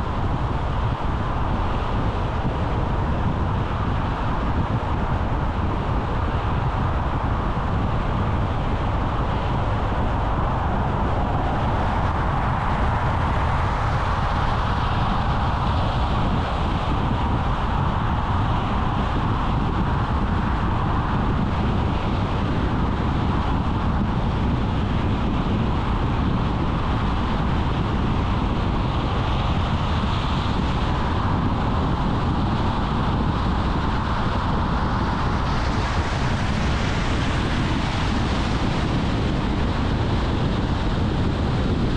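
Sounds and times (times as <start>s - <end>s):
car road and wind noise: 0.0s - 41.9s.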